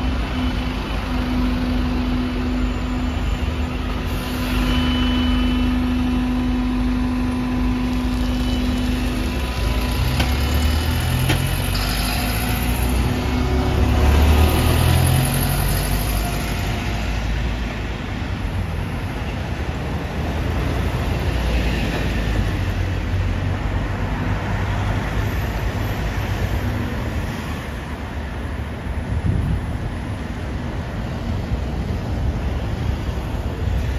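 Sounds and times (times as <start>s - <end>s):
bus engine accelerating: 0.0s - 33.9s
road traffic: 0.0s - 33.9s.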